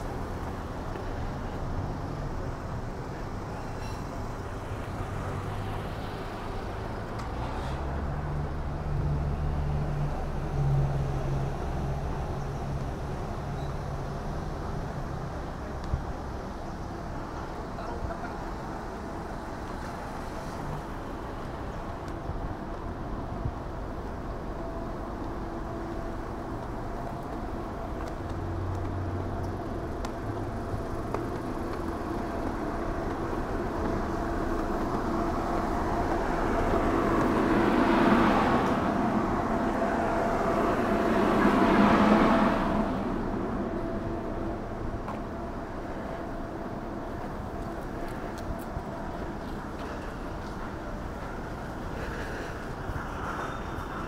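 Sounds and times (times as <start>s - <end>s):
cars driving past: 0.0s - 54.0s
steady street hum: 0.0s - 54.0s.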